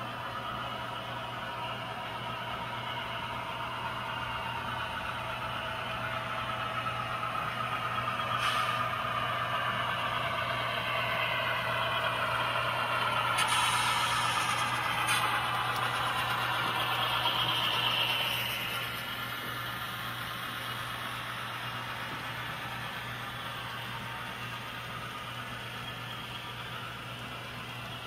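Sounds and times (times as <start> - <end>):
model train running on track: 0.0 - 28.0.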